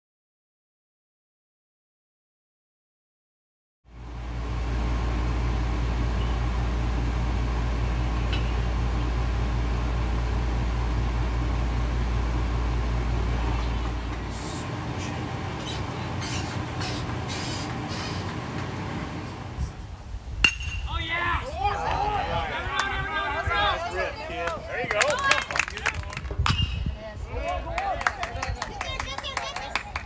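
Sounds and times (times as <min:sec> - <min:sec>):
low rumble of outdoor noise: 0:03.9 - 0:30.0.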